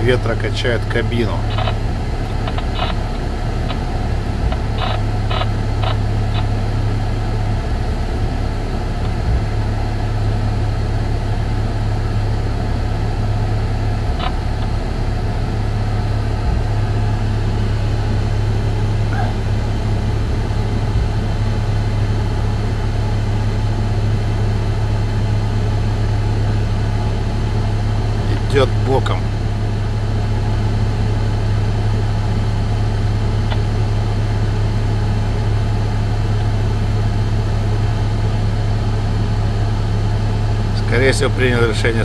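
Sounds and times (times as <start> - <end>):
low engine hum: 0.0 - 42.0.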